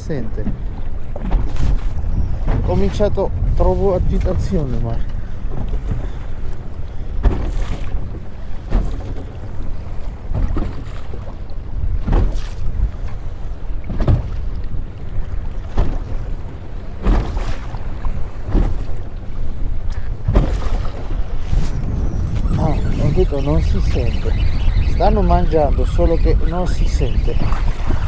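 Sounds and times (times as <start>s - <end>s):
waves slapping boat hull: 0.0s - 28.0s
wind rumble on microphone: 0.0s - 28.0s.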